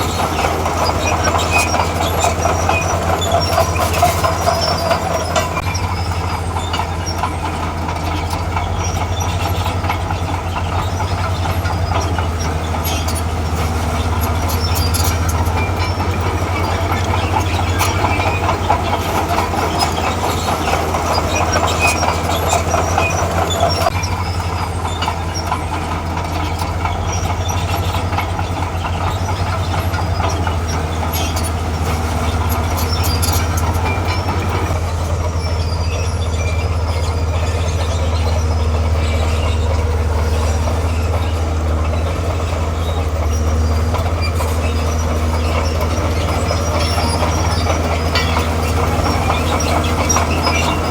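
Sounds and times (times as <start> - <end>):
diesel engine running under load: 0.0 - 50.9
steel tracks clanking: 0.0 - 50.9.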